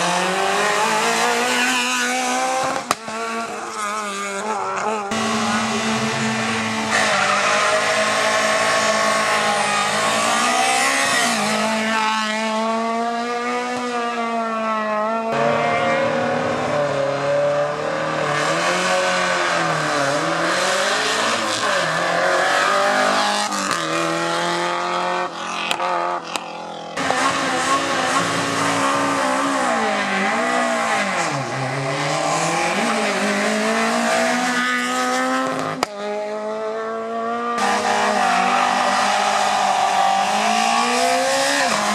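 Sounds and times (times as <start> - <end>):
rally car engines revving: 0.0 - 41.9.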